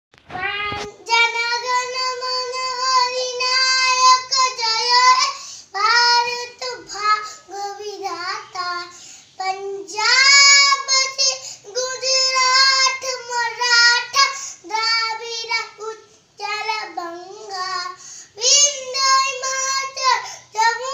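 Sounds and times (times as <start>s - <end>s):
boy singing unaccompanied: 0.3s - 20.9s.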